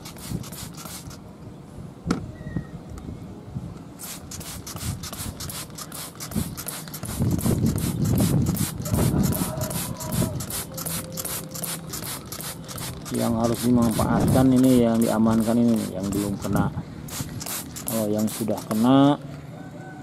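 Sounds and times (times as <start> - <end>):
spray bottle squirting: 0.0 - 1.2, 4.0 - 19.0.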